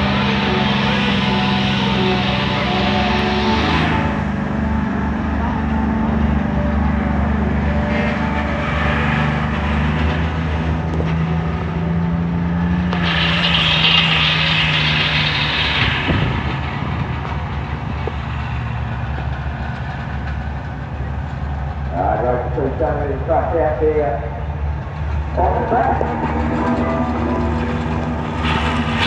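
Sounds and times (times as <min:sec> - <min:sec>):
diesel trucks driving past: 0:00.0 - 0:29.0.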